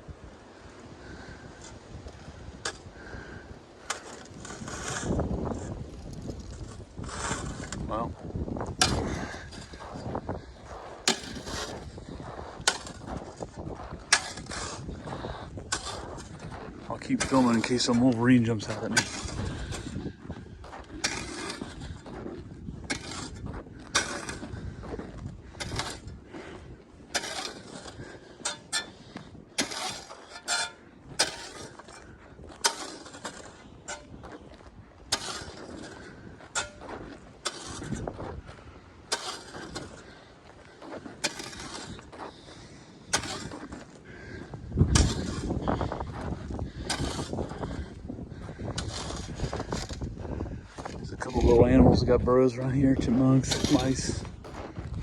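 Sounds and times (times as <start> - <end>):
wind rumble on microphone: 0.0 - 55.0
footsteps crunching on icy snow: 0.6 - 55.0.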